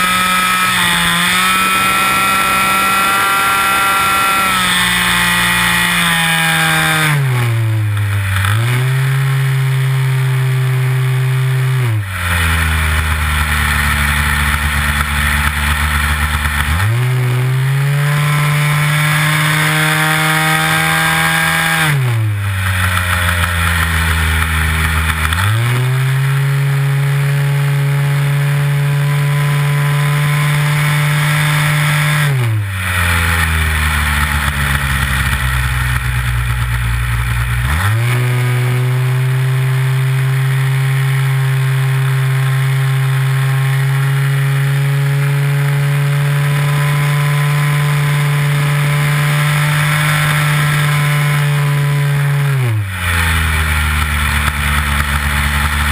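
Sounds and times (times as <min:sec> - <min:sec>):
model airplane engine: 0:00.0 - 0:55.9.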